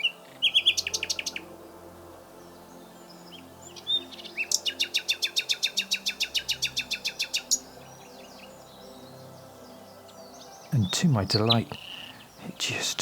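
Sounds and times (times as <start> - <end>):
nightingale singing: 0.0 - 13.0.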